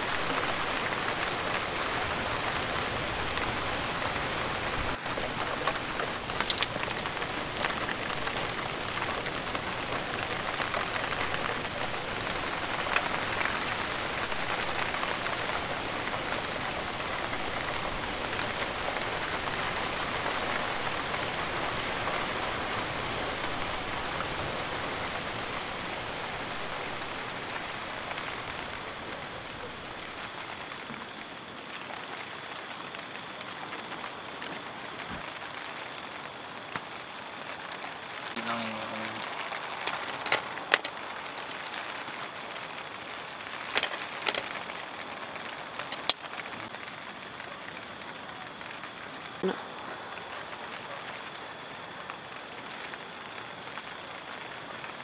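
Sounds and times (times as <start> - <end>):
light rain pattering: 0.0 - 55.0.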